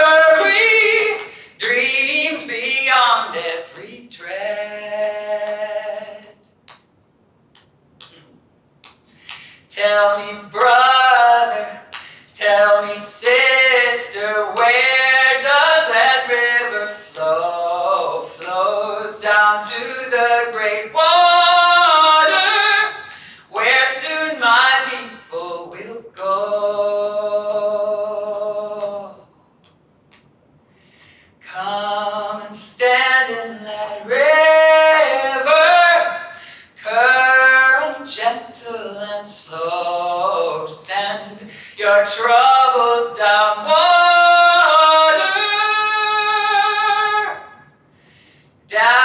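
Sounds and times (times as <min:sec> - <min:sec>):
woman singing a cappella: 0:00.0 - 0:06.4, 0:09.7 - 0:29.3, 0:31.4 - 0:47.6, 0:48.7 - 0:49.0.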